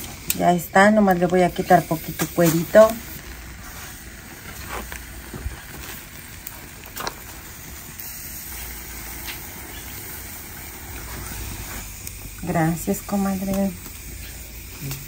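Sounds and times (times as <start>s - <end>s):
gas burner flame hissing: 0.0s - 15.0s
tomatoes sizzling on a grill: 0.0s - 15.0s.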